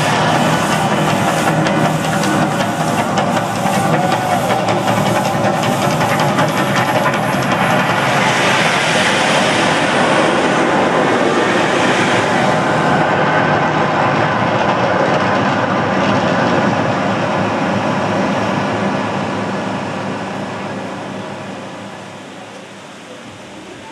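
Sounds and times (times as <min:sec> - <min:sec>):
gas flames and fountain jets rushing: 0:00.0 - 0:23.9.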